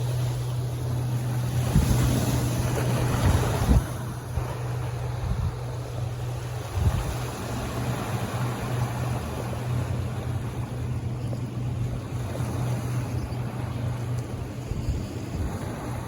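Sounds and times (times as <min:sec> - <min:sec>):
low machinery hum: 0:00.0 - 0:16.0
water noise: 0:00.0 - 0:16.0
wind: 0:00.0 - 0:16.0.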